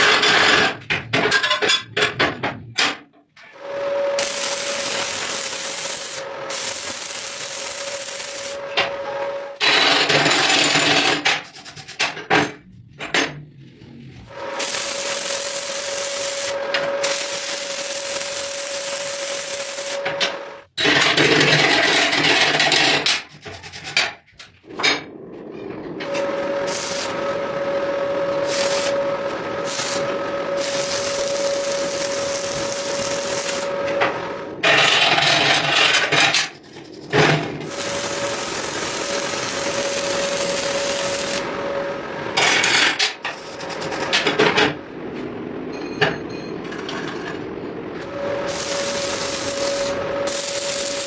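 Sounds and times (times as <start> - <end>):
metalworking tool humming: 3.4 - 22.5, 24.7 - 44.8, 48.0 - 51.0
harsh friction noise: 3.4 - 45.3, 46.7 - 51.0.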